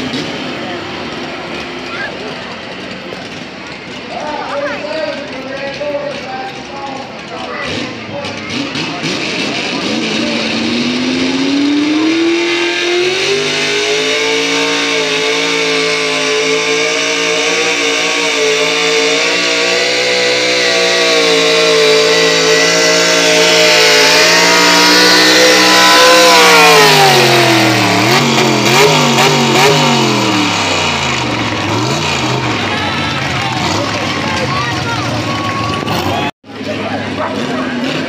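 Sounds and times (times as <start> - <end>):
engine throttle blips: 0.0 - 38.0
truck engine under load: 0.0 - 38.0.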